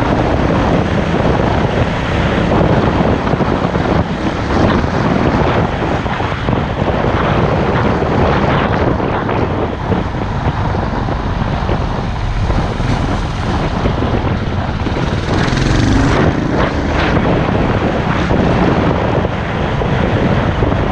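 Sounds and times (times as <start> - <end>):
motorcycle engine running: 0.0 - 20.9
wind buffeting microphone: 0.0 - 20.9.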